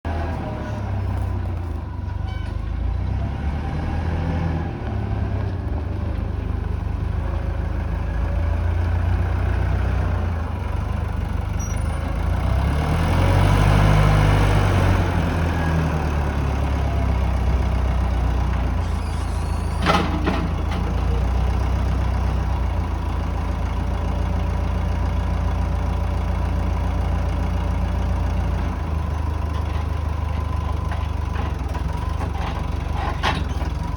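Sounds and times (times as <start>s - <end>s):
wheel loader diesel engine running: 0.0s - 33.9s.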